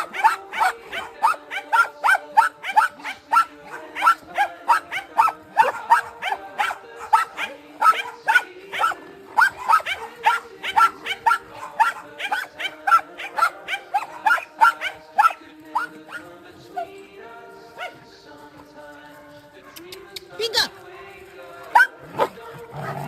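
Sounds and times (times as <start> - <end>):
young dogs yipping and barking: 0.0 - 19.9, 21.5 - 23.0.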